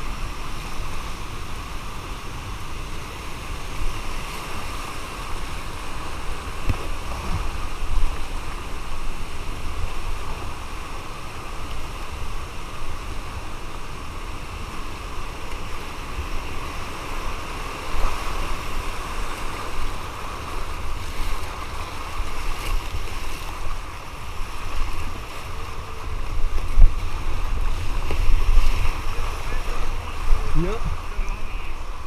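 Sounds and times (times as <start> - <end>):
whitewater rapids rushing: 0.0 - 32.0.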